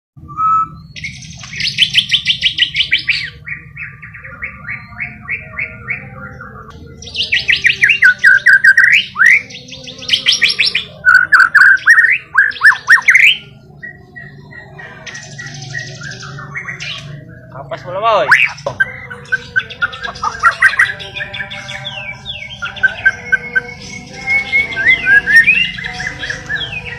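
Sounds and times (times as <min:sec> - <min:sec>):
songbird singing: 0:00.2 - 0:26.9.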